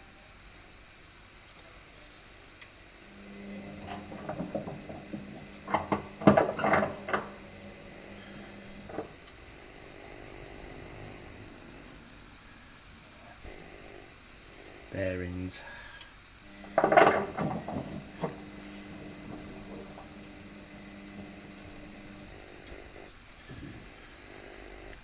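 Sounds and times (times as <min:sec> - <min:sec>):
washing machine motor hum: 0:02.3 - 0:25.0.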